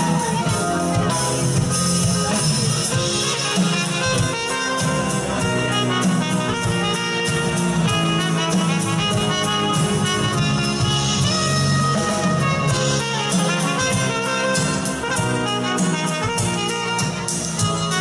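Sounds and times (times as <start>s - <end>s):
live band playing jazzy pop: 0.0s - 18.0s
trumpet melody: 0.0s - 18.0s.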